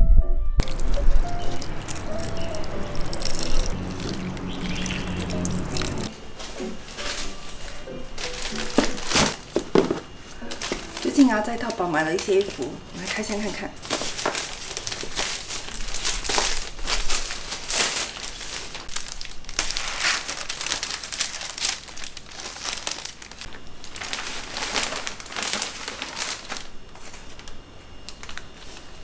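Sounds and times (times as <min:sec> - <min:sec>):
plastic and paper packaging crinkling: 0:00.6 - 0:29.0.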